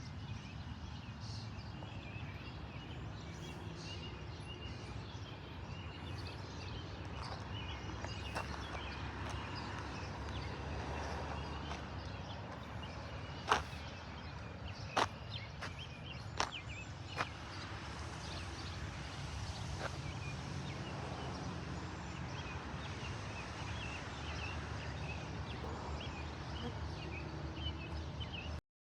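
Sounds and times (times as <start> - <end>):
small birds chirping: 0.0 - 28.6.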